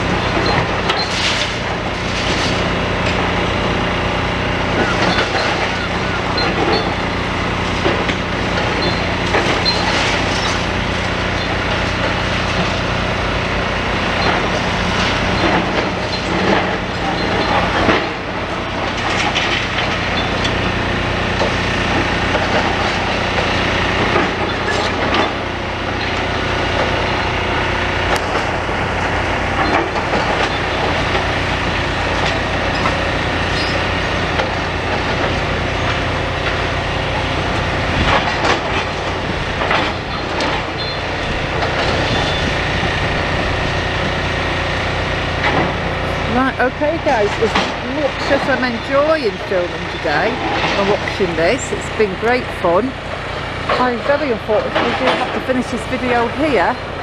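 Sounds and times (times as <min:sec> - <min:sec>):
diesel engine running: 0:00.0 - 0:57.0
excavator crunching rubble: 0:00.0 - 0:57.0.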